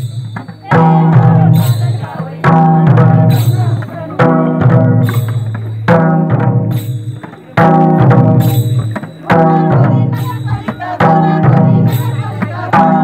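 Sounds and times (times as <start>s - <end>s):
barrel drums beating: 0.0s - 13.0s.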